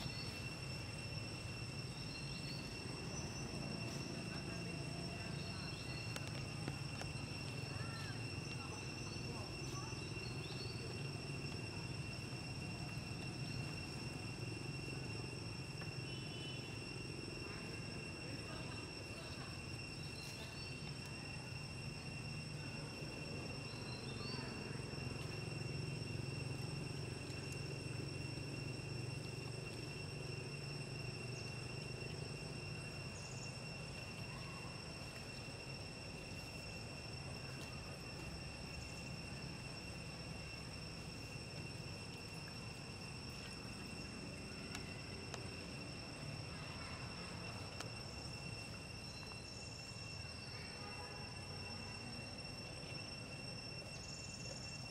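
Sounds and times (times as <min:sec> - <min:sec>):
high-pitched insect drone: 0:00.0 - 0:54.9
low background hum: 0:00.0 - 0:54.9.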